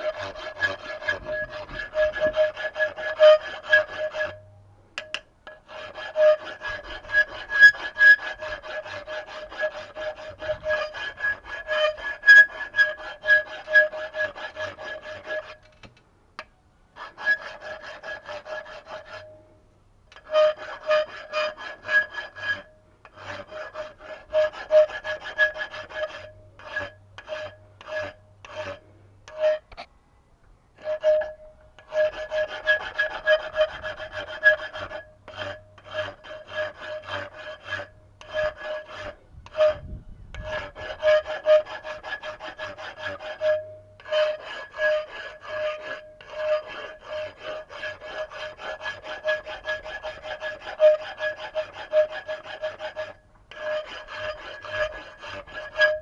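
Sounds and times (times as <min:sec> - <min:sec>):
hand tool scraping metal: 0:00.0 - 0:15.9, 0:17.0 - 0:19.4, 0:20.1 - 0:29.9, 0:30.8 - 0:56.0.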